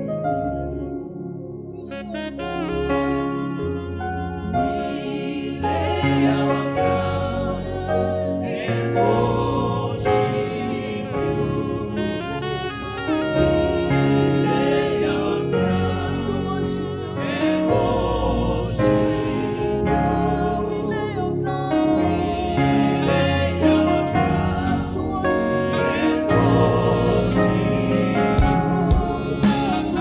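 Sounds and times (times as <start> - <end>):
sustained accompaniment: 0.0 - 30.0
gospel worship singing: 1.9 - 30.0.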